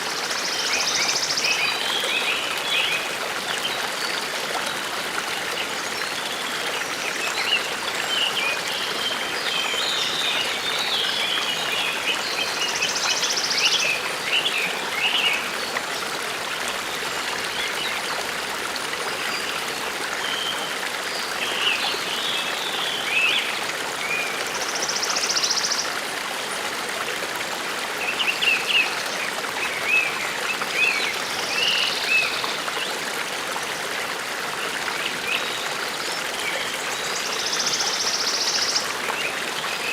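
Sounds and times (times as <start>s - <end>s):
forest stream babbling: 0.0s - 39.9s.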